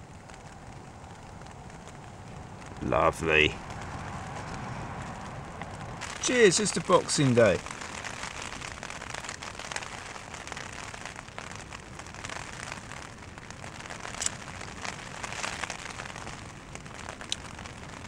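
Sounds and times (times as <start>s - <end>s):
rain on tent flysheet: 0.0s - 18.0s.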